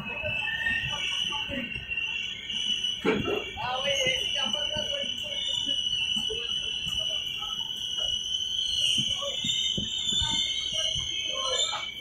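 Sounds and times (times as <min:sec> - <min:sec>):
faint voices: 0:00.0 - 0:12.0
train brakes squealing: 0:00.0 - 0:12.0.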